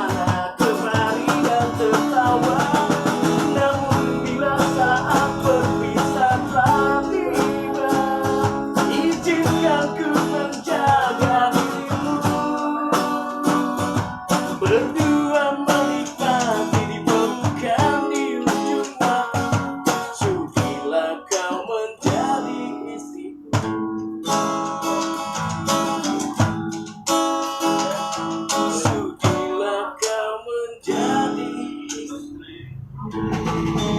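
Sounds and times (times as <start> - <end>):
person singing: 0.0 - 23.7, 27.8 - 33.9
acoustic guitar strumming: 0.0 - 33.9.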